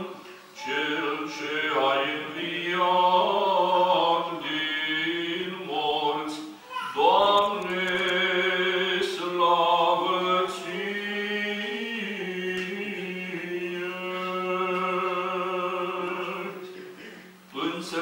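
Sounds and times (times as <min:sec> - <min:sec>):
church chanting: 0:00.0 - 0:18.0.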